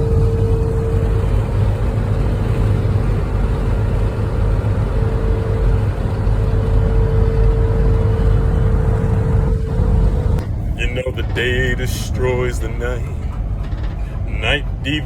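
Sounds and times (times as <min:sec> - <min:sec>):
thin steady whine: 0:00.0 - 0:15.0
van engine and road rumble: 0:00.0 - 0:15.0.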